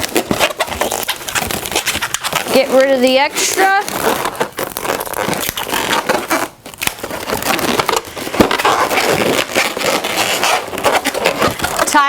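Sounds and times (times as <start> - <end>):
balloons crackling and rubbing: 0.0 - 12.0.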